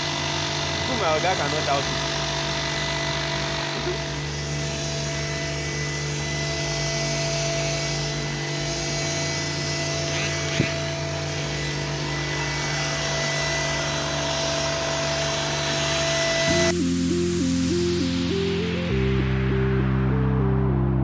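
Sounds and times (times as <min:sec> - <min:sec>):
machine motor whining: 0:00.0 - 0:19.0.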